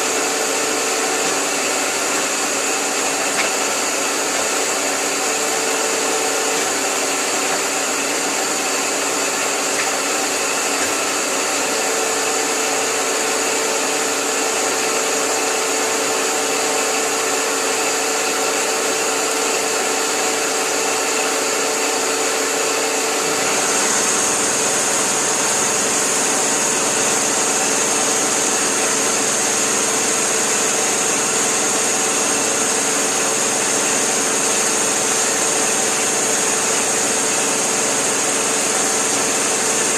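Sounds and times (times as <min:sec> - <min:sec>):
lathe machine whirring: 0:00.0 - 0:39.9.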